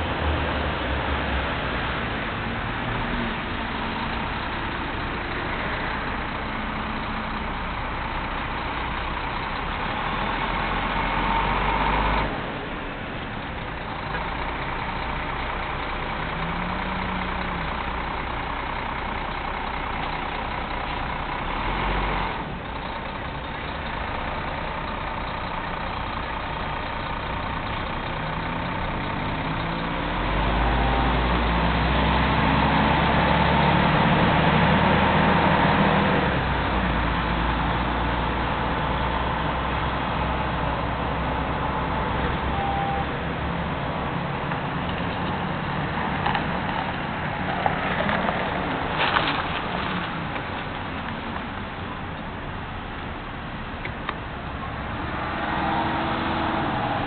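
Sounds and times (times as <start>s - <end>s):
heavy truck engine: 0.0s - 57.0s
traffic engines idling: 0.0s - 57.0s.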